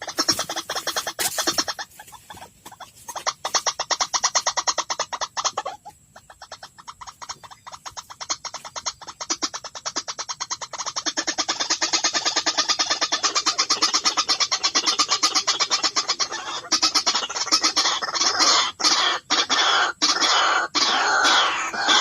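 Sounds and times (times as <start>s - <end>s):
waterhen croaking calls: 0.0s - 22.0s.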